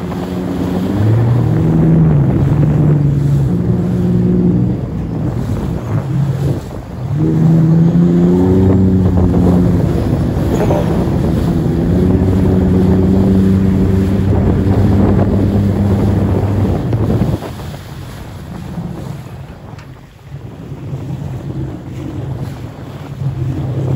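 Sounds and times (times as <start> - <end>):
jet ski engine running: 0.0 - 23.9.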